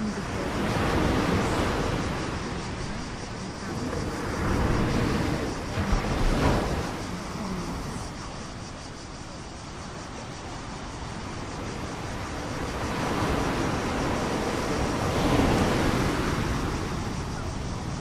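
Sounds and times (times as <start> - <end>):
sea waves washing: 0.0 - 18.0
wind buffeting microphone: 0.0 - 18.0.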